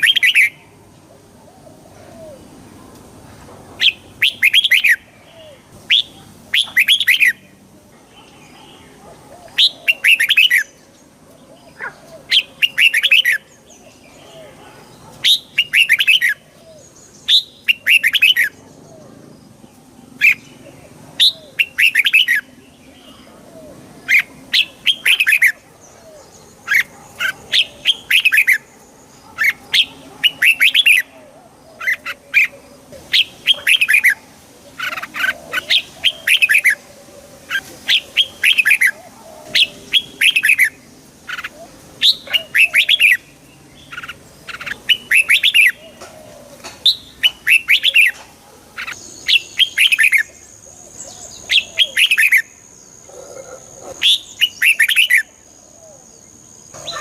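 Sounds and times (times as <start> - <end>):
bird singing chirpy phrases: 0.0 - 3.0, 3.8 - 57.0.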